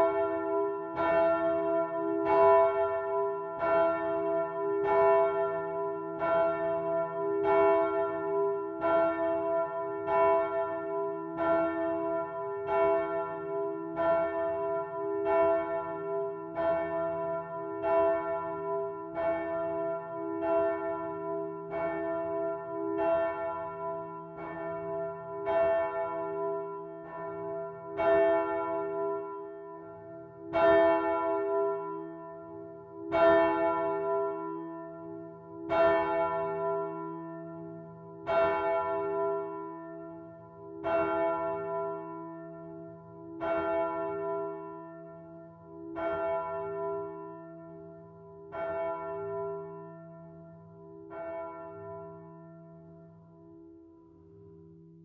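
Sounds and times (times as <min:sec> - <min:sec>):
church bell ringing: 0:00.0 - 0:55.0.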